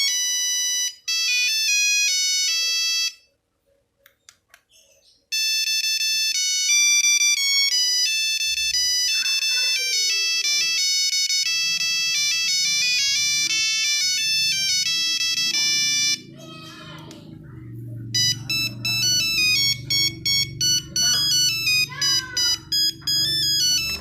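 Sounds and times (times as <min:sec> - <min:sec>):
monophonic phone ringtone: 0:00.0 - 0:03.4, 0:05.3 - 0:17.0, 0:17.9 - 0:24.0.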